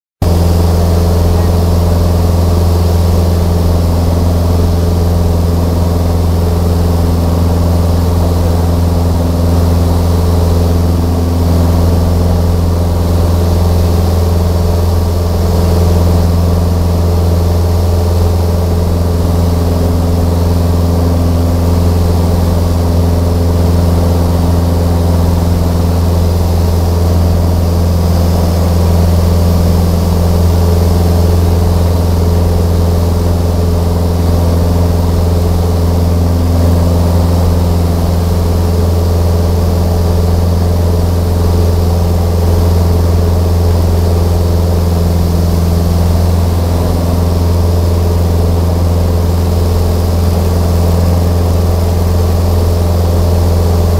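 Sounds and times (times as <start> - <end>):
aircraft engine droning in cabin: 0.2 - 53.9.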